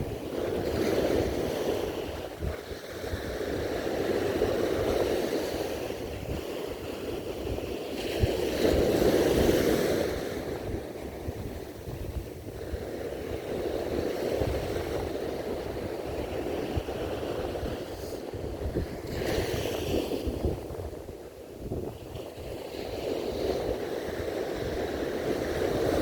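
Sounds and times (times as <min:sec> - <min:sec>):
sea waves breaking: 0:00.0 - 0:26.0
wind rumble on microphone: 0:00.0 - 0:26.0.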